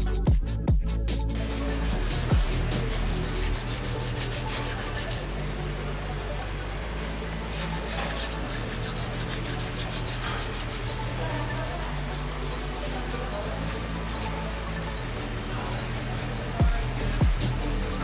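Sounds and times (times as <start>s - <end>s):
abrasive rubbing: 1.0s - 18.0s.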